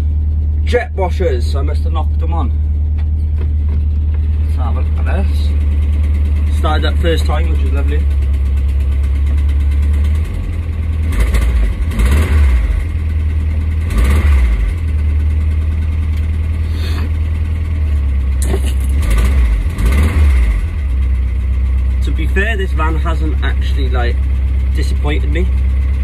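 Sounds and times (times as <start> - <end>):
engine idling with throttle blips: 0.0 - 26.0.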